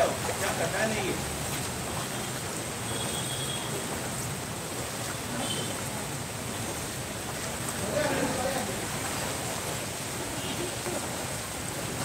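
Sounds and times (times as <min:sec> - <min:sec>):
shallow floodwater: 0:00.0 - 0:12.0
traffic noise: 0:00.0 - 0:12.0.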